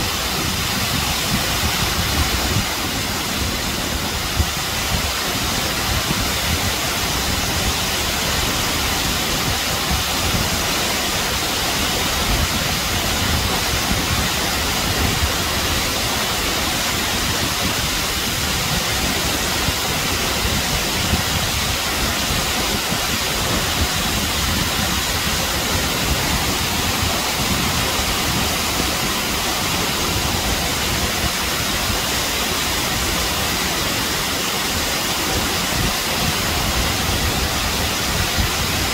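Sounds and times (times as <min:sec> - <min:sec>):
waterfall rushing onto rock: 0:00.0 - 0:38.9.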